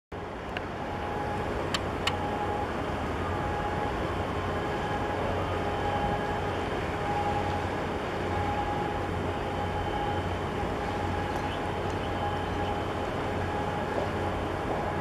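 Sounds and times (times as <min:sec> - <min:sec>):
faint steady whine: 0:00.2 - 0:15.0
ship machinery rumble: 0:00.2 - 0:15.0.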